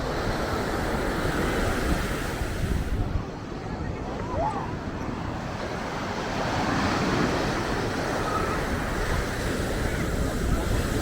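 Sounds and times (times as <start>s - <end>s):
ocean surf on beach: 0.0s - 11.0s
wind buffeting microphone: 0.0s - 11.0s.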